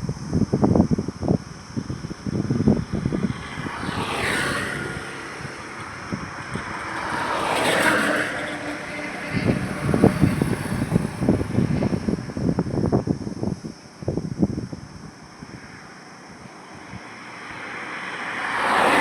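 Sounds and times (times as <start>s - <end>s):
wind buffeting microphone: 0.0s - 17.9s
vehicles passing by: 0.0s - 19.0s.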